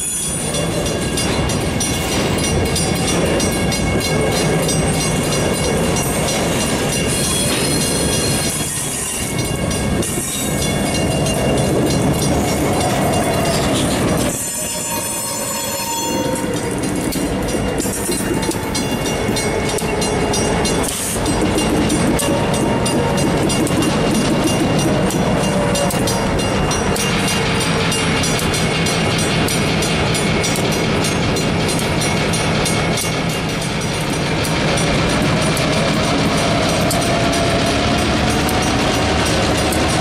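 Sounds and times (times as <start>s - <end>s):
diesel locomotive engine drone: 0.0s - 40.0s
train wheel noise: 0.0s - 40.0s
wheels clicking over rails: 0.6s - 15.0s, 16.1s - 40.0s.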